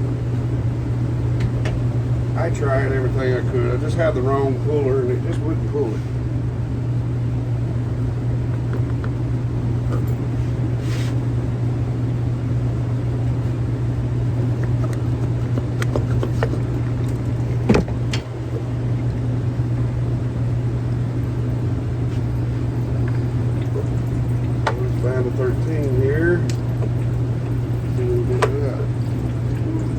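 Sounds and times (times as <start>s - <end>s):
low machine hum: 0.0s - 29.9s.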